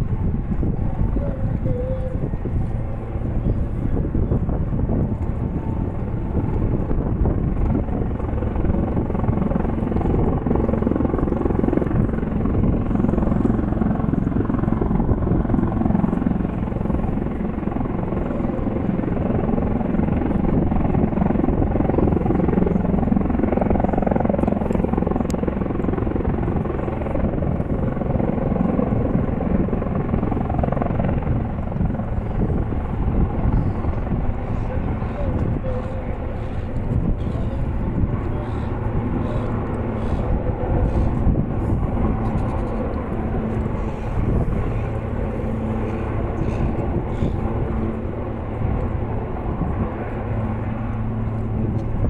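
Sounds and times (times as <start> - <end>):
helicopters flying: 0.0 - 52.0.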